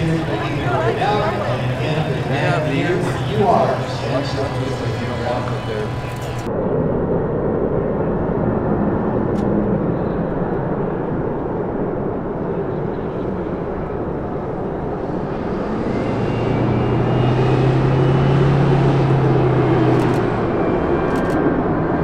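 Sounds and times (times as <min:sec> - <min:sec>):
jet engines roaring: 0:00.0 - 0:22.0
low hum: 0:00.0 - 0:22.0.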